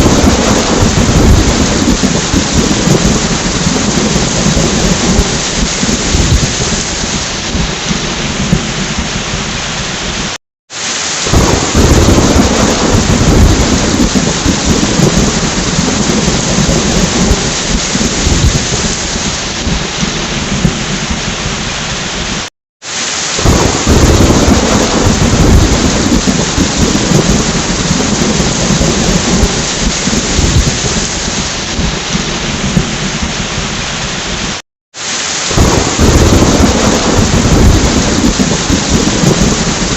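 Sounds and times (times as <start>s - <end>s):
rolling thunder: 0.0s - 10.4s, 11.2s - 22.4s, 23.4s - 34.5s, 35.5s - 39.9s
heavy rain: 0.0s - 39.9s.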